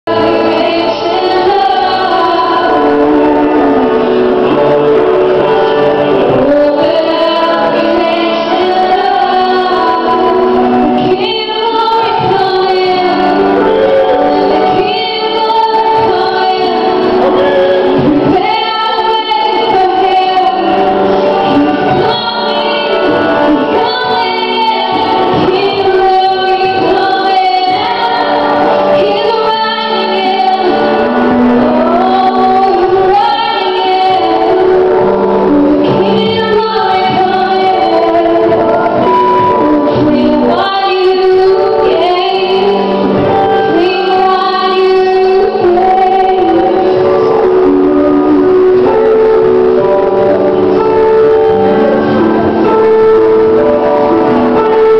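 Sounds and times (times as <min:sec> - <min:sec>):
band playing worship music: 0:00.1 - 0:54.9
singers singing together: 0:00.1 - 0:54.9
woman singing: 0:00.1 - 0:54.9.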